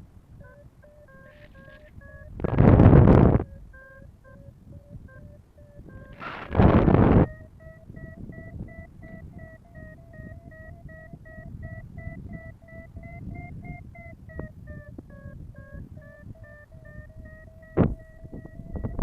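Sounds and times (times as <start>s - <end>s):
wind rumble on microphone: 0.0s - 19.0s
variometer beeping: 0.4s - 19.0s
wind gust buffet: 0.4s - 19.0s.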